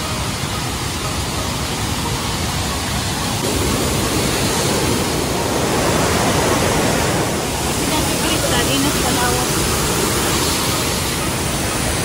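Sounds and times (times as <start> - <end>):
river and waterfall rushing: 0.0 - 12.0.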